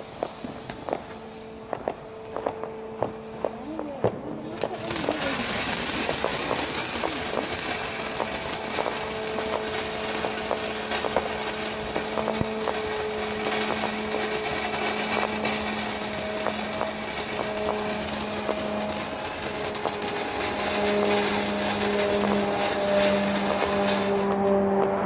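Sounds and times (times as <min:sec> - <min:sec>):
sharp crackles: 0:00.0 - 0:25.0
steady rushing noise: 0:00.0 - 0:25.0.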